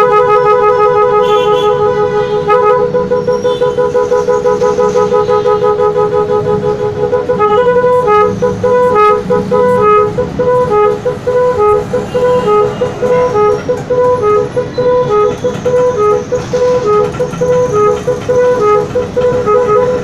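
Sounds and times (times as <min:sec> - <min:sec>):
electric horn playing tune: 0:00.0 - 0:20.0.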